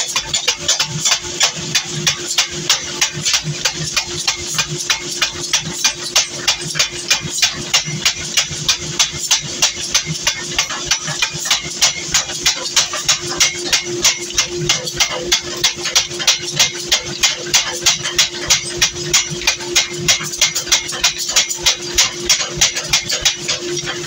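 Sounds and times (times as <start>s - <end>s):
power hammer pounding metal: 0.0s - 24.0s.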